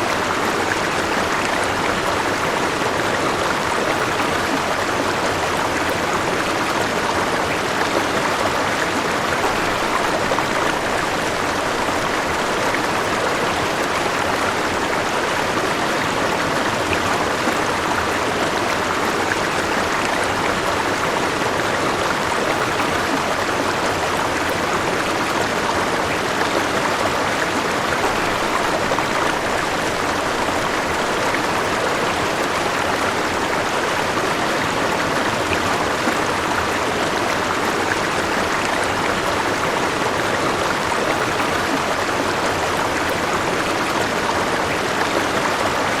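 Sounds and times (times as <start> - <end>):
river water flowing: 0.0 - 46.0.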